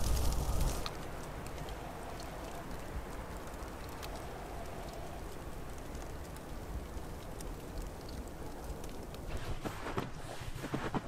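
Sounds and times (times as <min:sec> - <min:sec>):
soft hiss of snowfall: 0:00.0 - 0:11.0.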